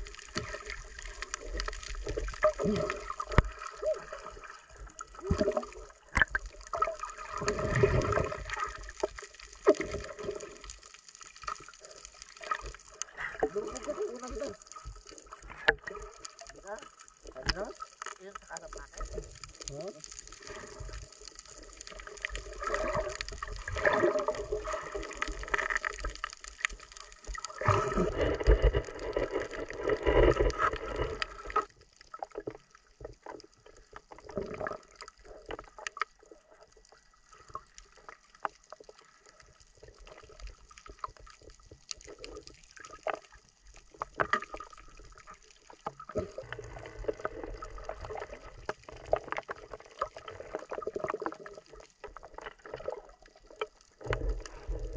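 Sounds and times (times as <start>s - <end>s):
underwater gurgling and churning: 0.0s - 54.9s.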